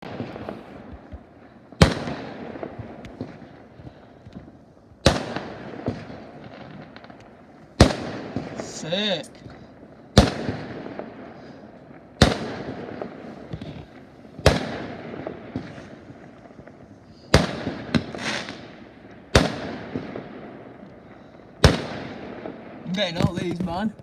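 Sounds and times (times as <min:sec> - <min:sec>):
small firework pops: 0:00.0 - 0:08.6, 0:09.4 - 0:11.1, 0:12.0 - 0:21.0, 0:21.6 - 0:24.0
fireworks bangs with echo: 0:00.0 - 0:24.0.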